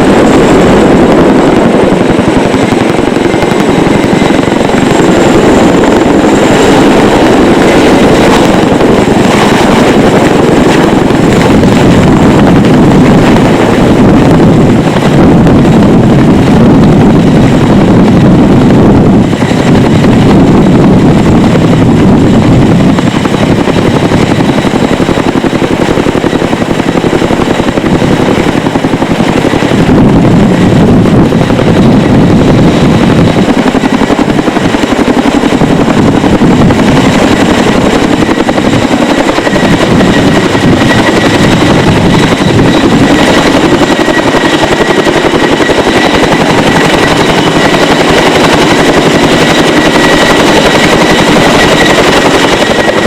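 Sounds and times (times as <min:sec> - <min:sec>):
helicopter rotors and engines: 0:00.0 - 0:53.0.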